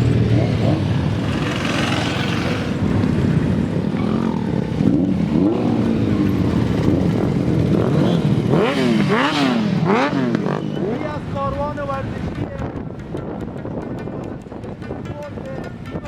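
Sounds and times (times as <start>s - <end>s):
motorcycle engines revving: 0.0s - 13.6s.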